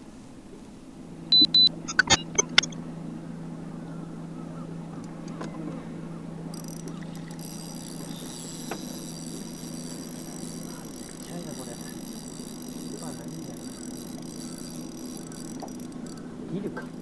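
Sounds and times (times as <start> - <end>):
boat motor humming: 0.9 - 17.0.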